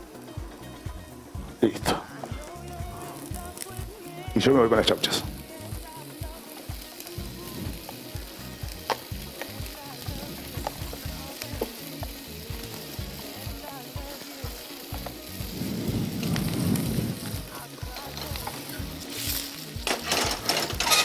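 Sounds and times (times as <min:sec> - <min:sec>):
carrots sizzling in a skillet: 0:00.0 - 0:21.0.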